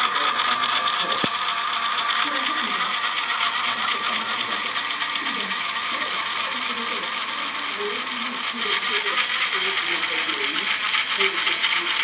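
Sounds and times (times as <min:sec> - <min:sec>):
fast rattling buzz from speaker: 0:00.0 - 0:12.0.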